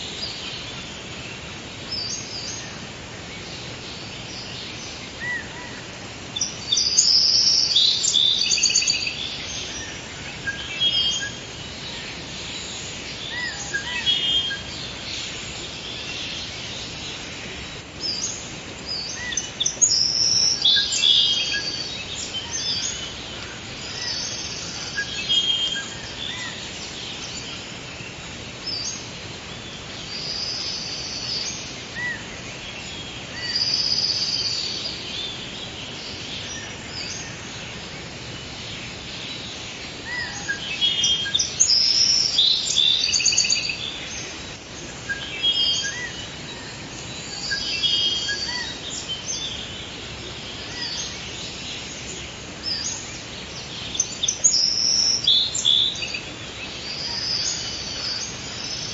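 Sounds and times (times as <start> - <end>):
birds chirping and trilling: 0.0 - 58.9
steady background hiss: 0.0 - 58.9.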